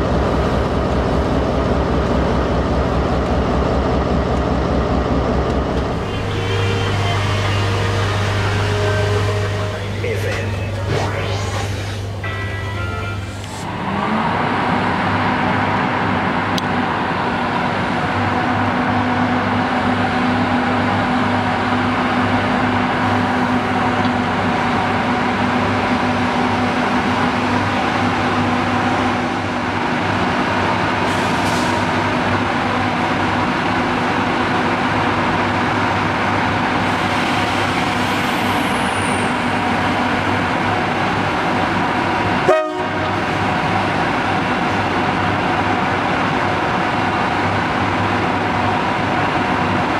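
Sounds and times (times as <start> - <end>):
locomotive running: 0.0 - 49.9.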